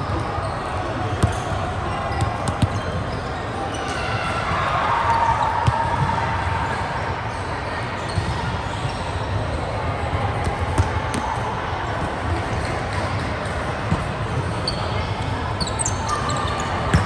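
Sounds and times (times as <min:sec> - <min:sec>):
court noise: 0:00.0 - 0:17.0.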